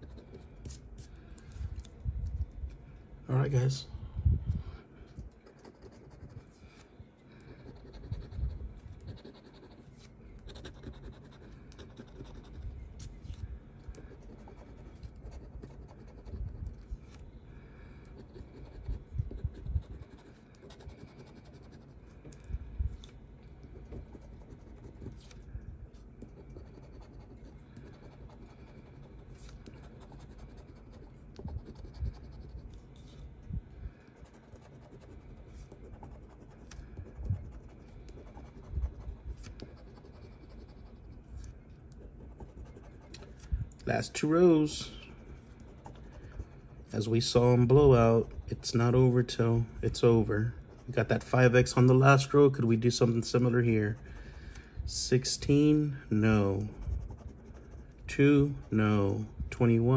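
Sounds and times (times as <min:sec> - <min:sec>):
scratching lottery ticket: 0:00.0 - 0:01.5, 0:05.3 - 0:06.8, 0:07.4 - 0:17.2, 0:18.0 - 0:33.3, 0:33.9 - 0:59.9.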